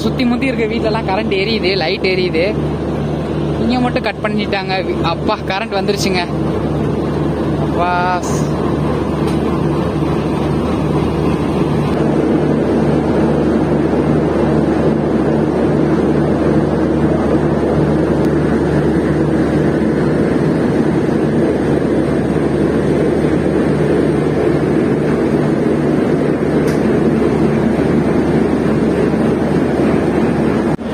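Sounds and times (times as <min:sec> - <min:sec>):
diesel locomotive engine throbbing: 0:00.0 - 0:30.9.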